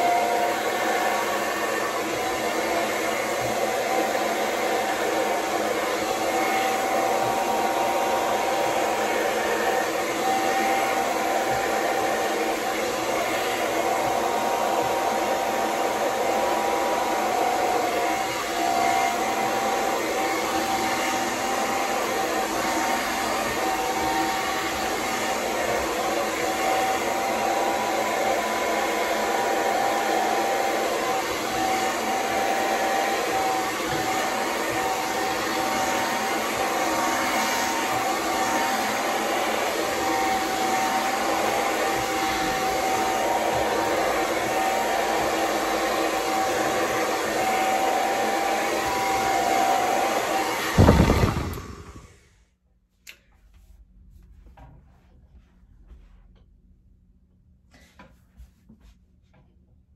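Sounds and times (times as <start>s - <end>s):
hair dryer running: 0.0s - 52.4s.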